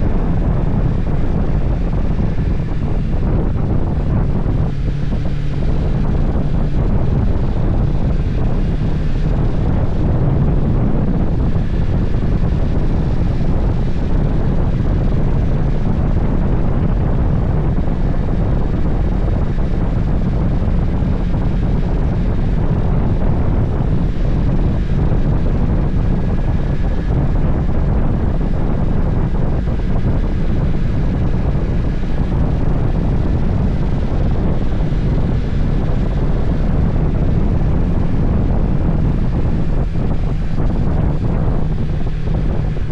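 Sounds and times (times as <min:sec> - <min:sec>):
motorcycle engine and road noise: 0:00.0 - 0:42.9
wind buffeting microphone: 0:00.0 - 0:42.9.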